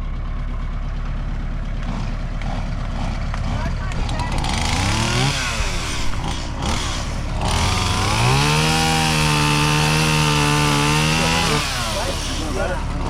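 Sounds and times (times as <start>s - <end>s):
chainsaw engine revving: 1.8s - 13.0s.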